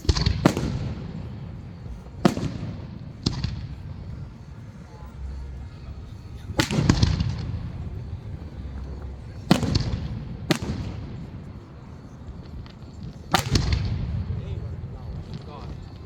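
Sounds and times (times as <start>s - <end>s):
fireworks booming with echo: 0.0s - 16.0s.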